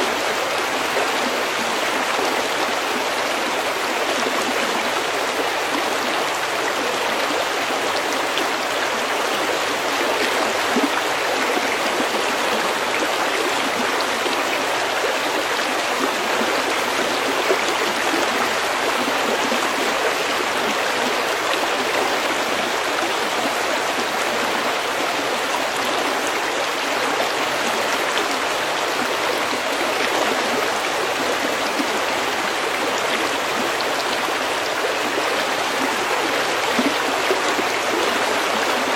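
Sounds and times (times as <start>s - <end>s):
stream flowing over pebbles: 0.0s - 38.9s.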